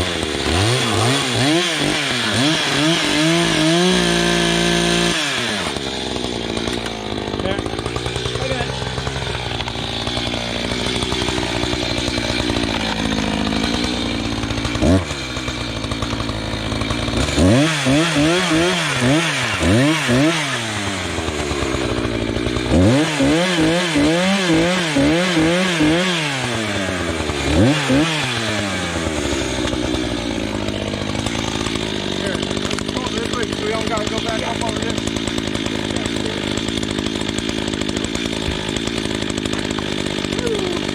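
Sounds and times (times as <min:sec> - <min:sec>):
power saw cutting log: 0:00.0 - 0:40.9.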